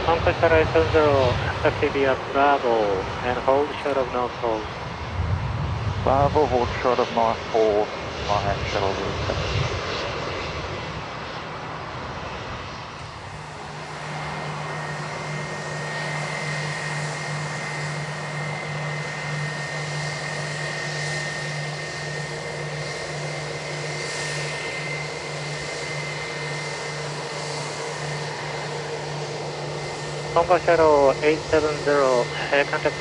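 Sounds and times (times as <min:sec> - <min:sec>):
high engine whine: 0:00.0 - 0:33.0
jet engines roaring: 0:00.0 - 0:33.0.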